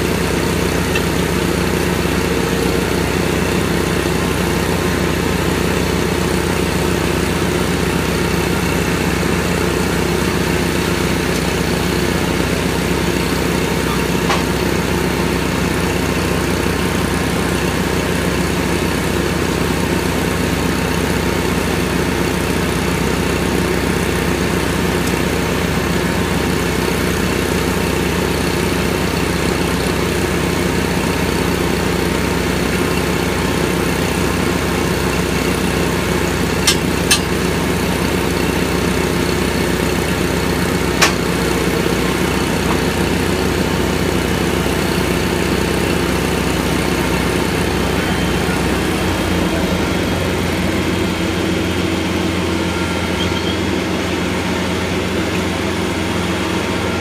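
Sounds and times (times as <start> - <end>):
machine engine running steadily: 0.0 - 57.0.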